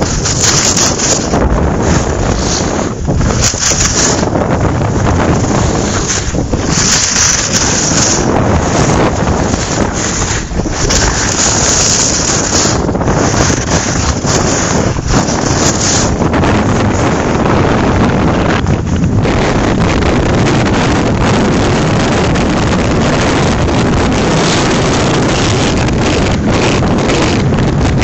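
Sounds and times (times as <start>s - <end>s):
strong wind buffeting microphone: 0.0s - 28.0s.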